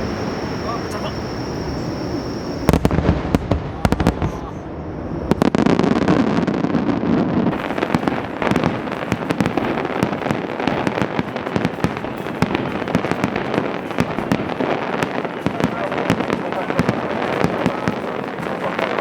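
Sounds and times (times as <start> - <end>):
fireworks popping and banging: 2.1 - 4.6, 5.3 - 19.0.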